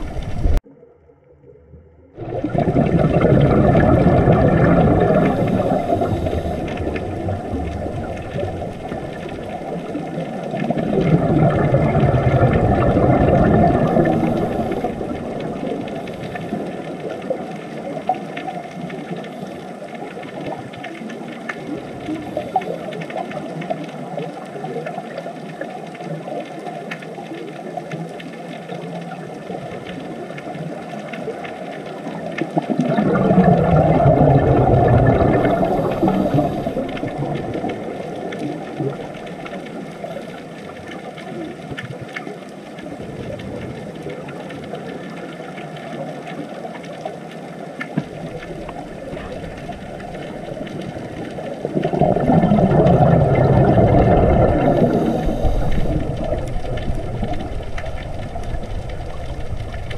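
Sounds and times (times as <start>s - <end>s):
underwater hiss and rumble: 0.0s - 59.9s
faint underwater clicks: 2.2s - 59.9s.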